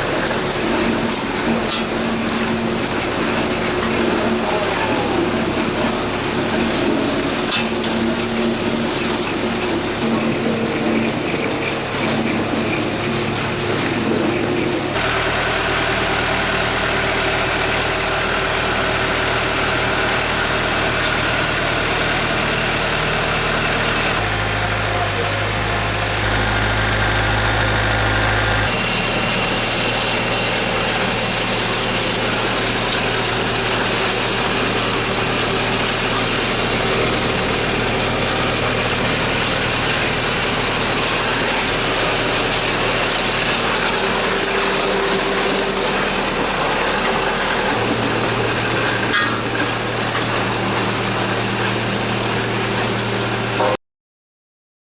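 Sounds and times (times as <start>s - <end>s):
farm machinery engine running: 0.0s - 53.8s.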